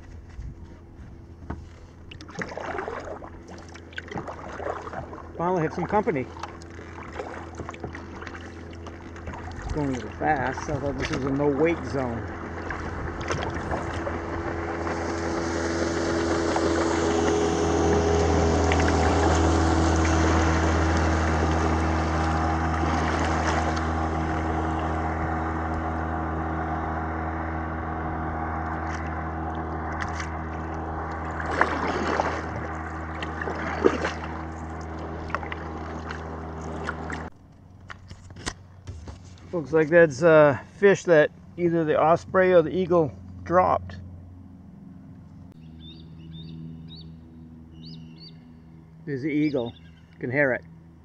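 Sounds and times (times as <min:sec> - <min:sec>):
wake water slapping hull: 0:00.0 - 0:46.0
motorboat engine droning: 0:00.0 - 0:51.0.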